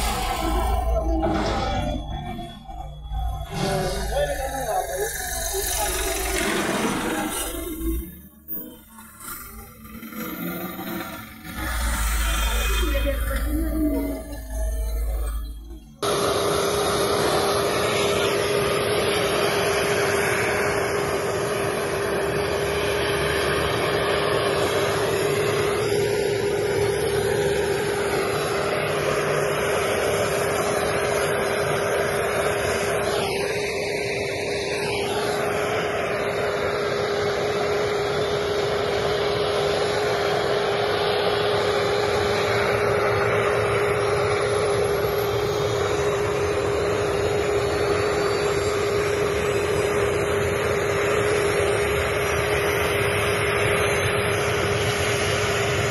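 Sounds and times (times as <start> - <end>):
helicopter running: 0.0 - 55.9.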